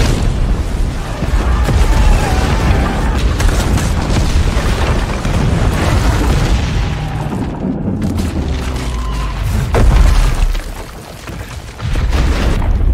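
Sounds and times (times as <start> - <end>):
heavy booming rumble: 0.0 - 10.6
explosions: 0.0 - 12.9.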